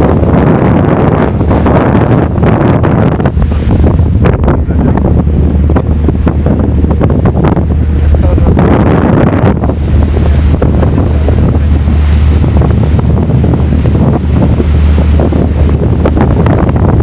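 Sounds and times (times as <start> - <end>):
bow wave splashing: 0.0 - 17.0
low rumble: 0.0 - 17.0
wind buffeting microphone: 0.0 - 17.0.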